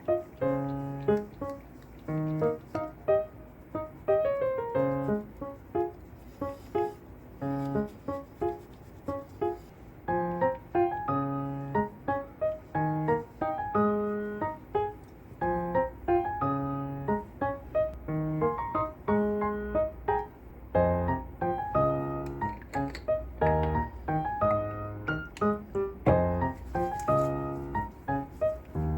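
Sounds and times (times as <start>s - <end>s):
gentle piano melody: 0.0s - 28.9s.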